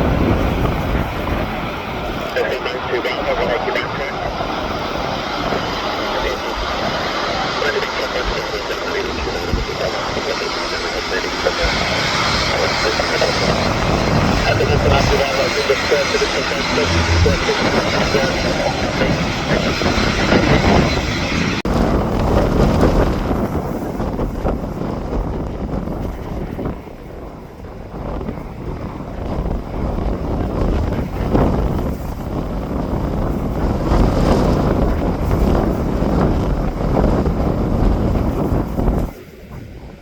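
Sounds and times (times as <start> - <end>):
aircraft engine noise: 0.0 - 40.0
wind buffeting microphone: 0.0 - 40.0.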